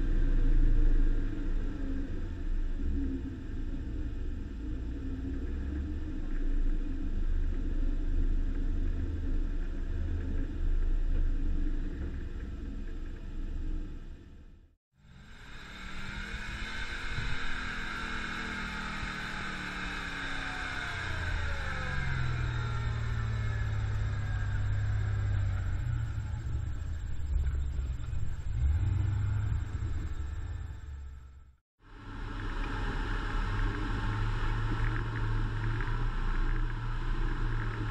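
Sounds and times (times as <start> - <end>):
truck engine rumble: 0.0 - 37.9.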